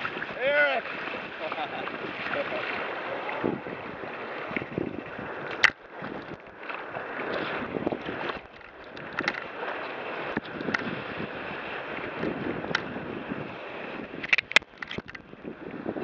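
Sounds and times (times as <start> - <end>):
water slapping hull: 0.0 - 16.0
waves splashing along hull: 0.0 - 16.0
wind on microphone: 0.0 - 16.0.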